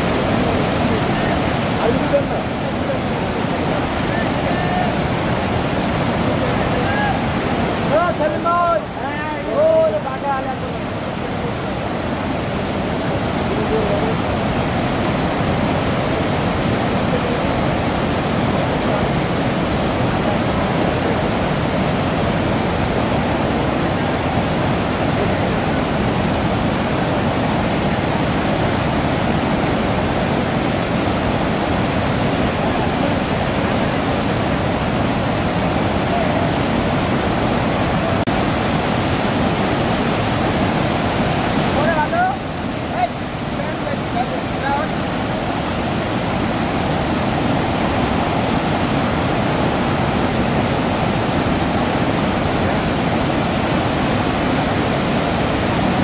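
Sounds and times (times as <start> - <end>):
water rushing over dam spillway: 0.0 - 56.0.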